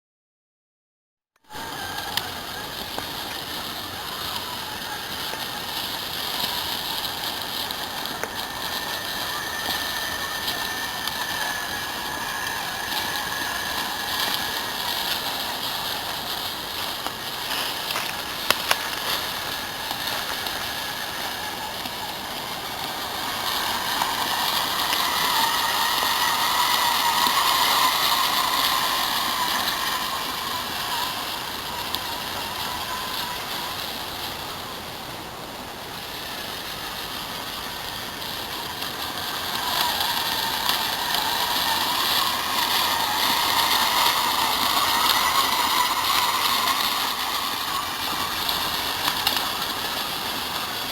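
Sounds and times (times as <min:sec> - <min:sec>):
toy truck motor whining: 0:01.4 - 0:35.3, 0:36.2 - 0:50.9.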